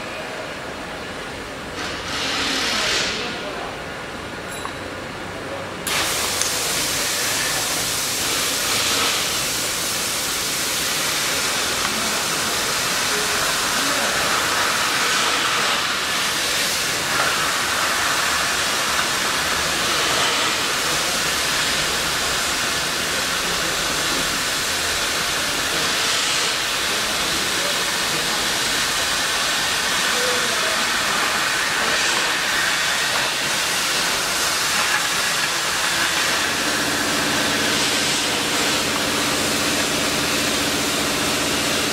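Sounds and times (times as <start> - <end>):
cutting torches hissing: 5.9 - 41.9.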